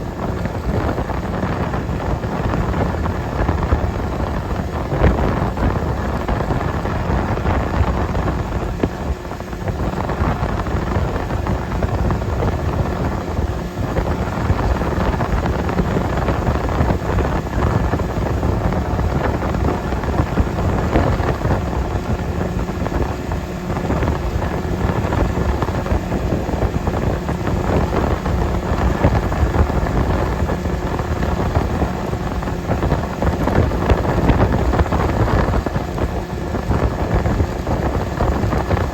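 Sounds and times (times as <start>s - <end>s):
motorboat engine running: 0.0s - 38.9s
wind buffeting microphone: 0.0s - 38.9s.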